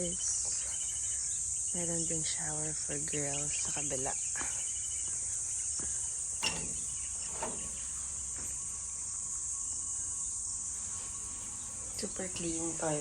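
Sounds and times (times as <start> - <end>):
cricket chorus chirring: 0.0 - 13.0.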